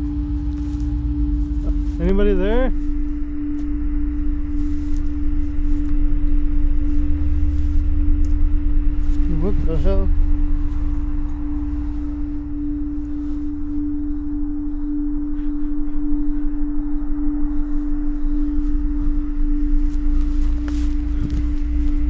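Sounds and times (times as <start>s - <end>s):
eerie sustained drone tone: 0.0s - 22.0s
low rumble: 0.0s - 22.0s.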